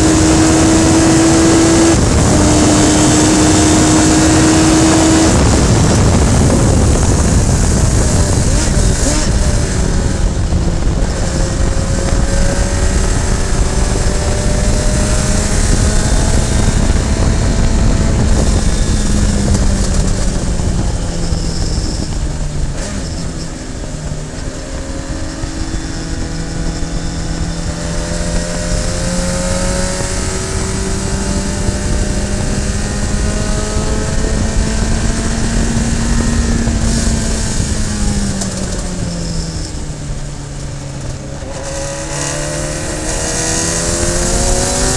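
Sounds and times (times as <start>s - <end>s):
heavy wind noise: 0.0s - 44.9s
racing car engine under load: 0.0s - 44.9s
road rumble: 0.0s - 44.9s.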